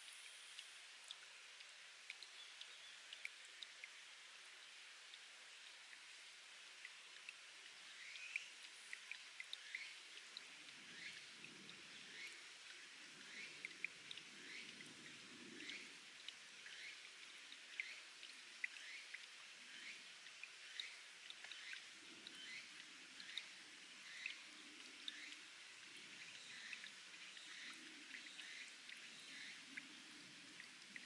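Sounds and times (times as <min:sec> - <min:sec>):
sharp water drips: 0:00.0 - 0:31.0.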